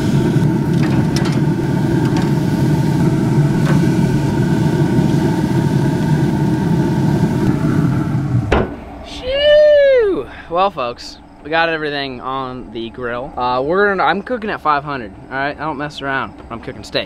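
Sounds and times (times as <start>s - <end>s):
grill rumbling hum: 0.0s - 17.0s.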